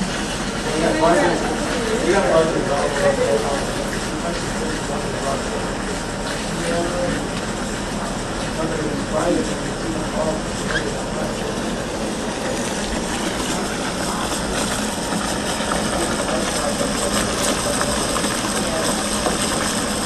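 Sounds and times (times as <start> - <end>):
water rushing into bucket: 0.0 - 20.0.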